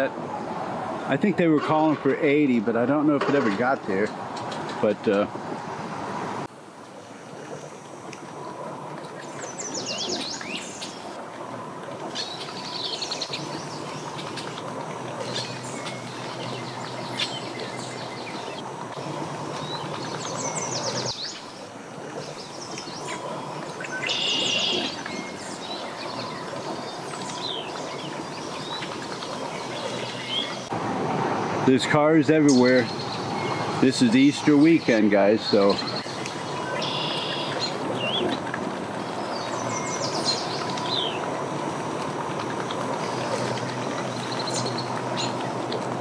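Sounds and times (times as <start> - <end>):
steady low hum: 0.0 - 46.0
songbirds chirping in trills: 7.2 - 30.8, 31.6 - 46.0.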